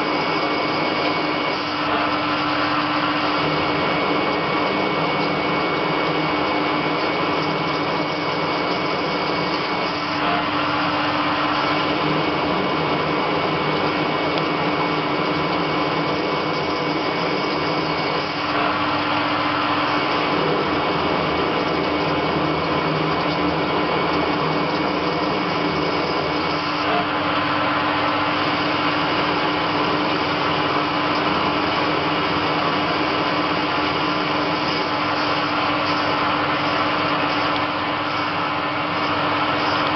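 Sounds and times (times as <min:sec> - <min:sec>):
coolant hissing: 0:00.0 - 0:39.9
lathe machine hum: 0:00.0 - 0:39.9
metal cutting noise: 0:00.0 - 0:39.9.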